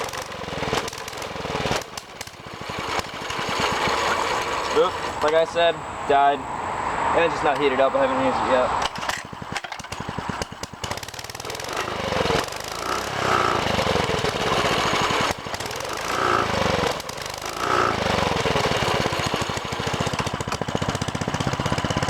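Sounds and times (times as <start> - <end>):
minibike engine revving: 0.0 - 5.7, 7.3 - 22.0.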